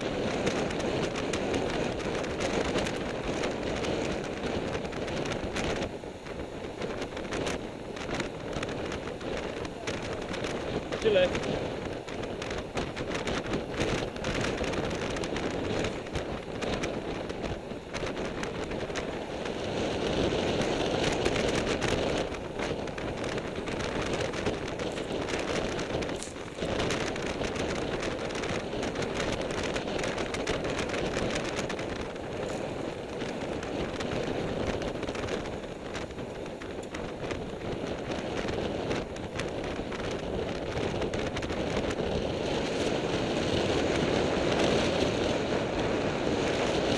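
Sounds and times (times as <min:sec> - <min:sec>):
tyres rumbling on tarmac: 0:00.0 - 0:46.9
wind rushing over microphone: 0:00.0 - 0:46.9.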